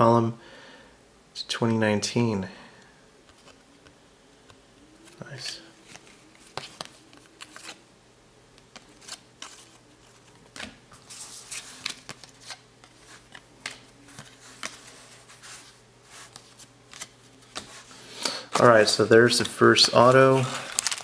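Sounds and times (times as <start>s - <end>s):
cards flipping and sliding: 3.2s - 7.8s, 8.5s - 21.0s.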